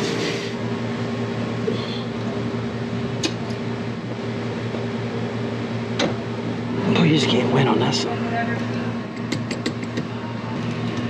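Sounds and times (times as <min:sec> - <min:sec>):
refrigeration machinery humming: 0:00.0 - 0:11.0.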